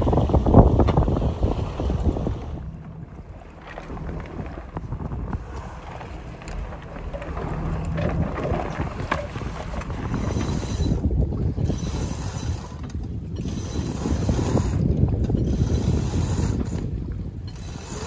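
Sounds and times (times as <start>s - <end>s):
boat engine hum: 0.0s - 18.0s
winch and rigging clicks and rattles: 0.0s - 18.0s
wind buffeting microphone: 0.0s - 18.0s.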